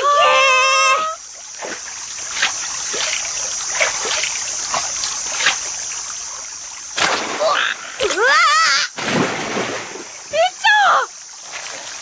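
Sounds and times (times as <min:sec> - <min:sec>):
steady high hiss: 0:00.0 - 0:12.0
light splashes in shallow water: 0:01.0 - 0:08.3, 0:08.9 - 0:12.0.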